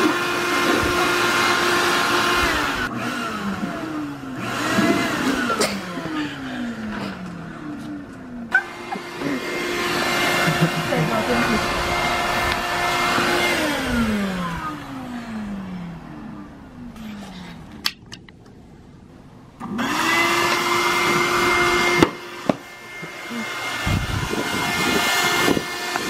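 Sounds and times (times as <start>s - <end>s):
shop vac motor whining: 0.0s - 18.0s, 19.6s - 26.0s.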